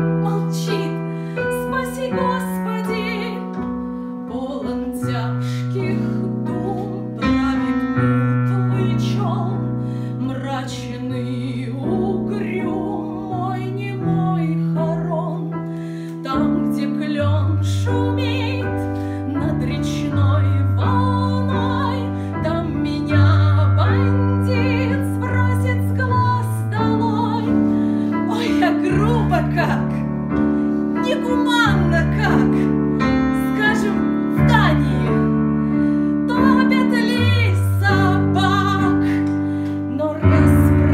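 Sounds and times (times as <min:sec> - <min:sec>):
piano bass notes: 0:00.0 - 0:40.9.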